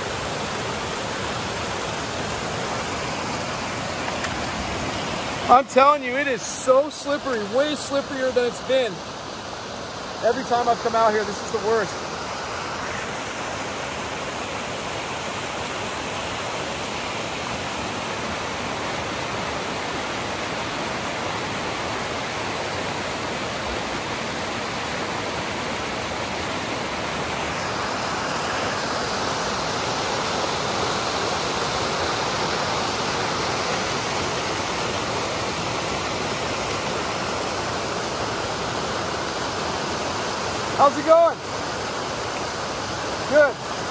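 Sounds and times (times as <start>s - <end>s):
creek water rushing over rocks: 0.0s - 43.9s.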